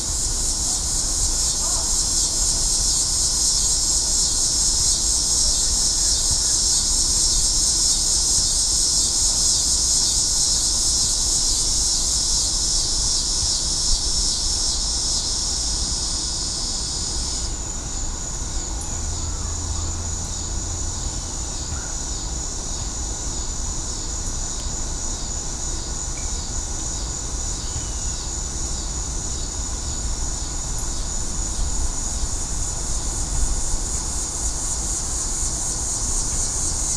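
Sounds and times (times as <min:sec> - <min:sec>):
insect chorus trilling: 0:00.0 - 0:36.9.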